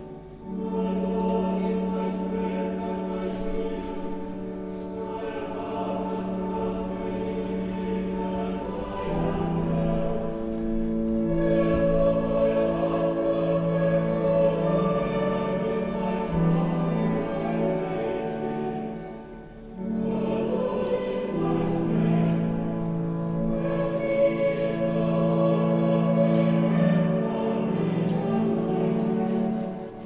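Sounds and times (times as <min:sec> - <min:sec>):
choir singing sustained chords: 0:00.0 - 0:30.0.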